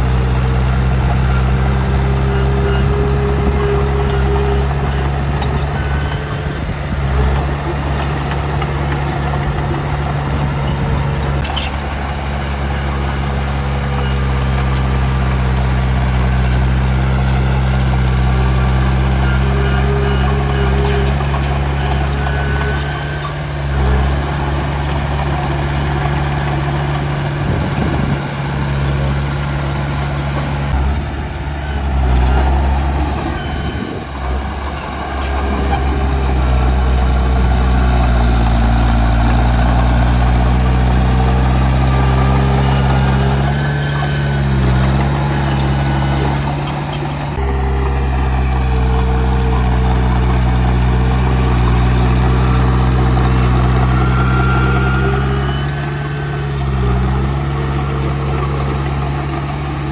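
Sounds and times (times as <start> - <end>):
bulldozer and truck diesel engines: 0.0 - 59.9.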